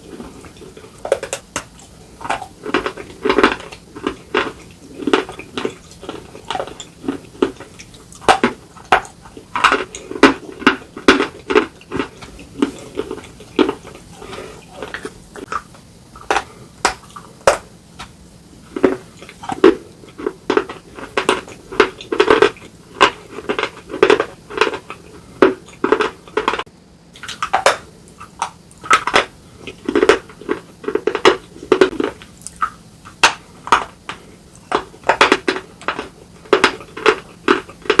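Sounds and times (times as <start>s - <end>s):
chewing and crunching: 0.0s - 38.0s.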